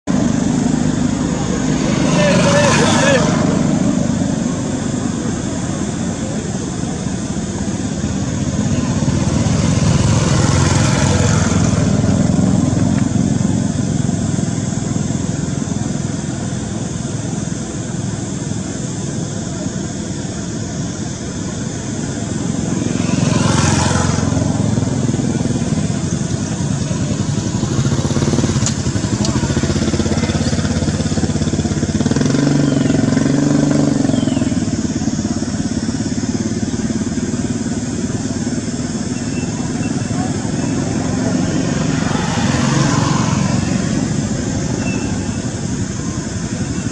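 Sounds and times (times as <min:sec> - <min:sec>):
road traffic: 0:00.0 - 0:46.9
vehicles passing by: 0:00.0 - 0:46.9.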